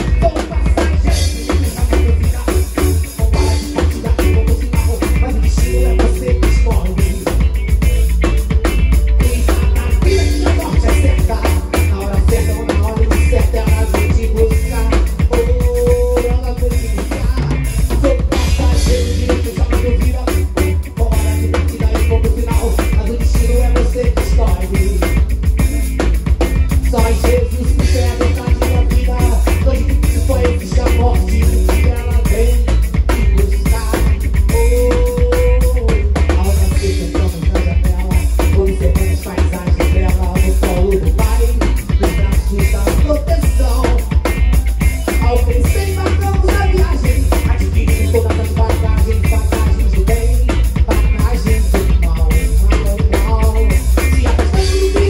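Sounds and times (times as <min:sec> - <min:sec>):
band playing upbeat song: 0:00.0 - 0:55.0
drum kit beat: 0:00.0 - 0:55.0
heavy electric bass: 0:00.0 - 0:55.0.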